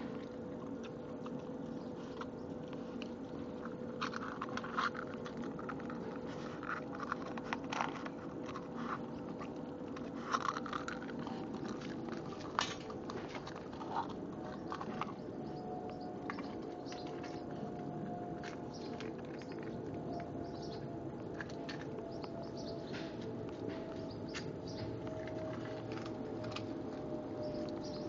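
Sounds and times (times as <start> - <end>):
puppy chewing egg shell: 0.0 - 28.0.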